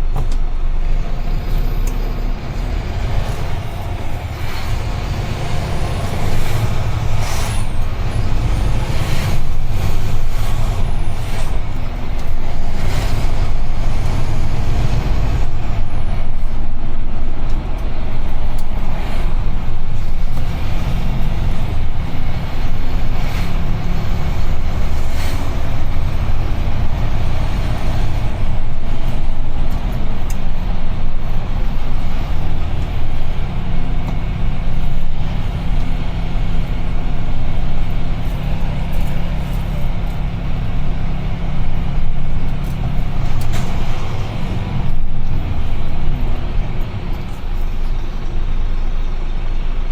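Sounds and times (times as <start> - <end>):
road noise: 0.0 - 49.9
truck engine drone: 0.0 - 49.9.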